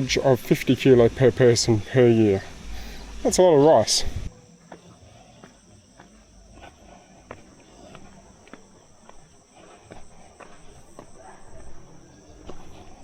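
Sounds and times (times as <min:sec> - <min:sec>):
insects chirring: 0:00.0 - 0:13.0
footsteps clicking: 0:02.3 - 0:13.0.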